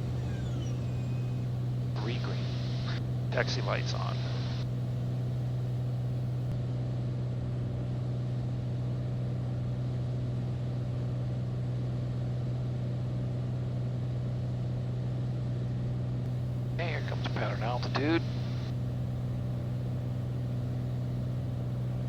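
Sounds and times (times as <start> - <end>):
airplane engine and propeller droning: 0.0 - 13.7, 16.3 - 22.0.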